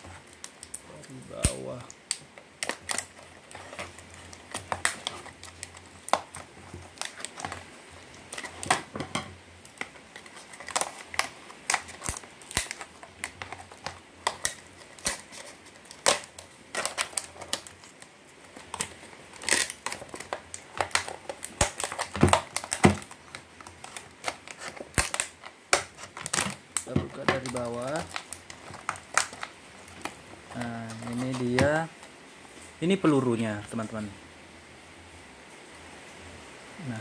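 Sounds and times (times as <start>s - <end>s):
scissors cutting plastic: 0.0s - 9.0s, 9.6s - 31.9s
plastic packaging crinkling: 0.0s - 34.0s.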